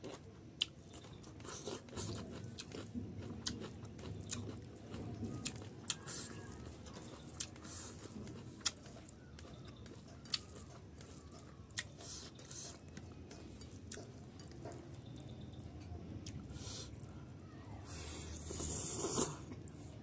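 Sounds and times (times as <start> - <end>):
close chewing: 0.0 - 20.0.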